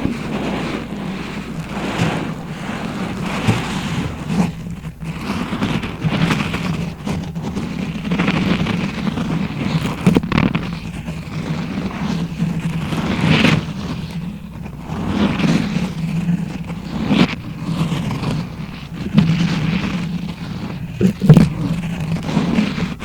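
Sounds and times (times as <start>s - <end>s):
rubbing and scratching on microphone: 0.0s - 23.0s.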